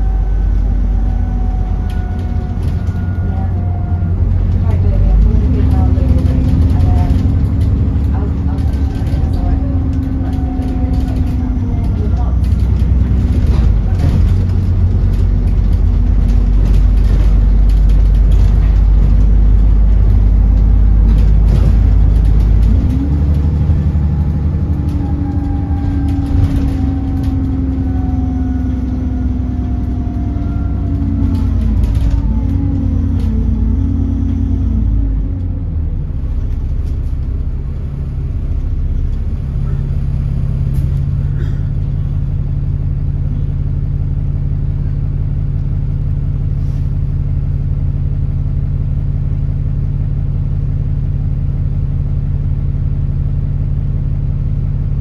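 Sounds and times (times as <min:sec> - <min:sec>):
bus diesel engine running: 0:00.0 - 0:55.0
transmission whine: 0:00.0 - 0:55.0.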